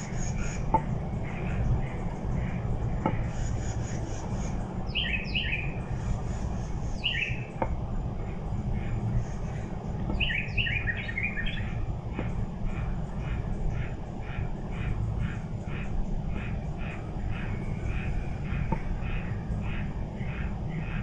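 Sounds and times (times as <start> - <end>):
bird chirping: 0.0 - 7.6, 8.2 - 21.0.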